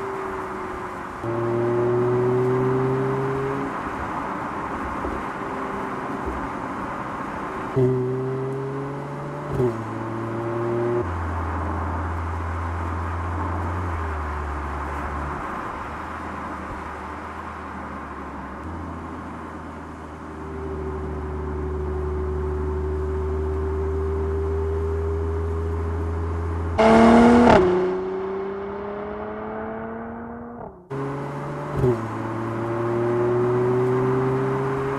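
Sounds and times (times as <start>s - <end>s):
car engine running: 0.0s - 34.9s
road noise: 0.0s - 34.9s.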